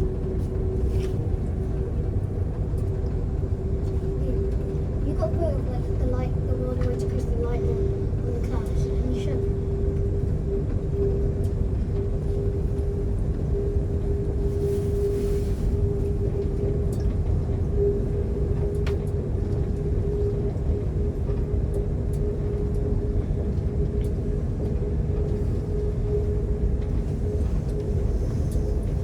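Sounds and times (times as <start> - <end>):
constant hum: 0.0 - 29.0
train wheels rumbling: 0.0 - 29.0.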